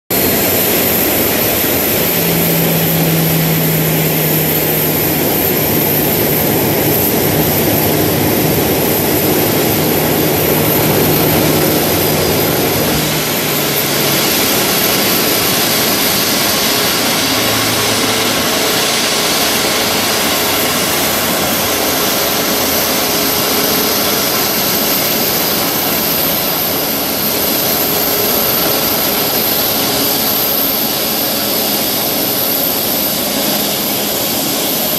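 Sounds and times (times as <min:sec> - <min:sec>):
low hum: 0:00.1 - 0:34.4
jet engines rushing: 0:00.1 - 0:34.9.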